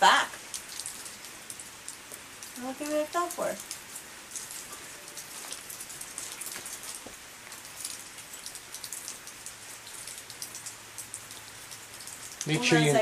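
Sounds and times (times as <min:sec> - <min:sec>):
light rain pattering: 0:00.0 - 0:13.0.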